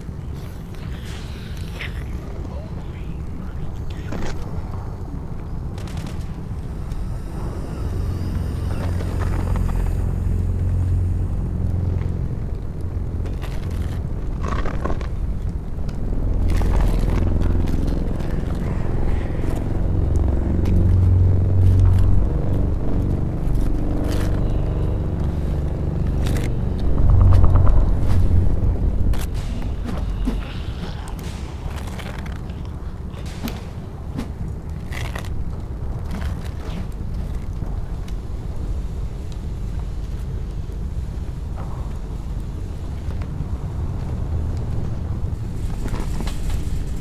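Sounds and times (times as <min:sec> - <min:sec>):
deep rumble: 0:00.0 - 0:47.0.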